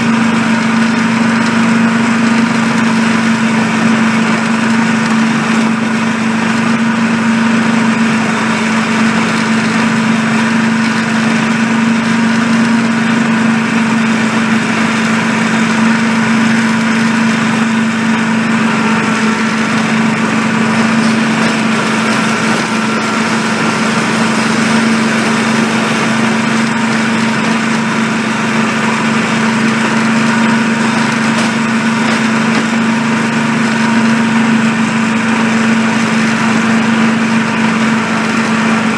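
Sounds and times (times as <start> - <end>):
miniature locomotive motor humming: 0.0 - 38.9.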